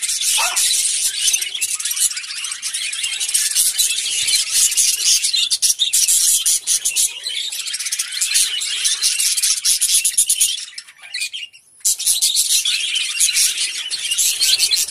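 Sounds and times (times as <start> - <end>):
flock of budgerigars chattering: 0.0 - 14.9.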